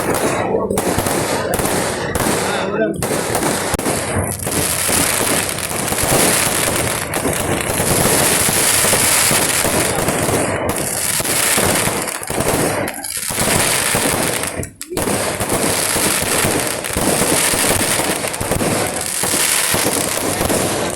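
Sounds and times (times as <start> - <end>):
fireworks barrage cracking and banging: 0.0 - 20.9.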